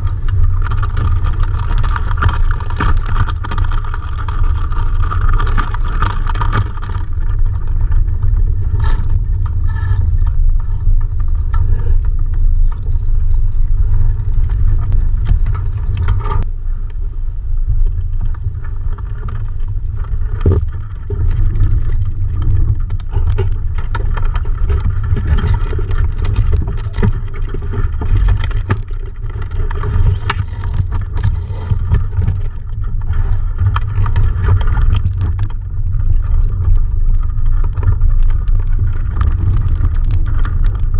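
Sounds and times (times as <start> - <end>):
wind buffeting camera: 0.0 - 40.9.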